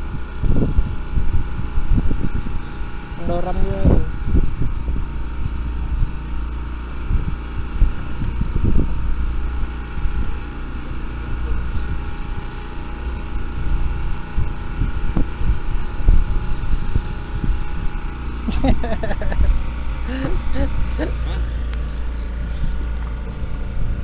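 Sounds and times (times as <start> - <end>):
boat engine throbbing: 0.0 - 24.0.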